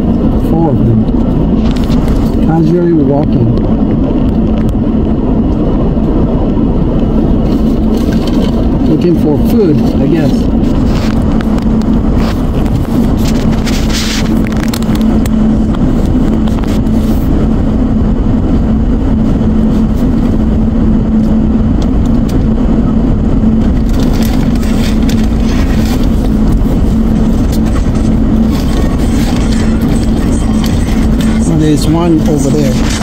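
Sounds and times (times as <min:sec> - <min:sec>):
car engine idling in cabin: 0:00.0 - 0:33.0.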